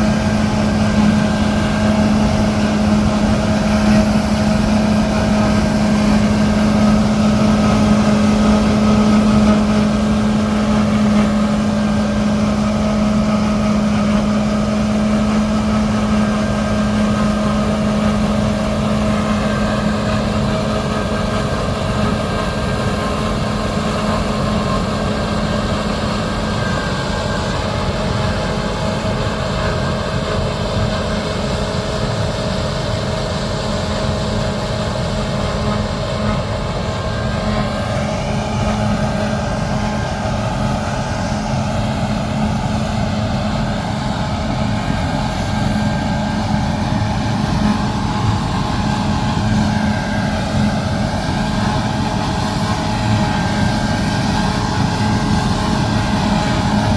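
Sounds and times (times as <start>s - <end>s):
harvest machinery droning: 0.0s - 56.9s.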